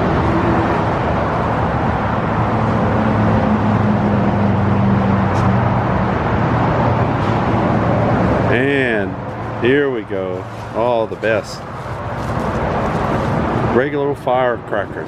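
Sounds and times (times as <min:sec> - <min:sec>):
road traffic noise: 0:00.0 - 0:15.0
vehicle engine low drone: 0:00.0 - 0:15.0.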